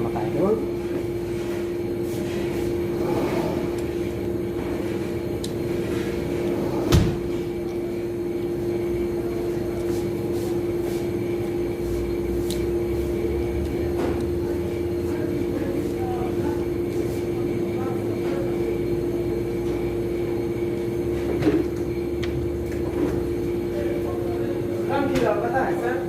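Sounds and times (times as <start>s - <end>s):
mechanical hum: 0.0s - 26.0s.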